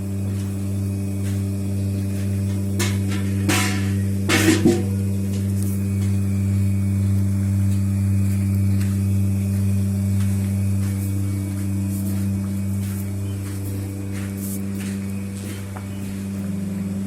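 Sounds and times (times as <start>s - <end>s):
loud low machine hum: 0.0s - 17.0s.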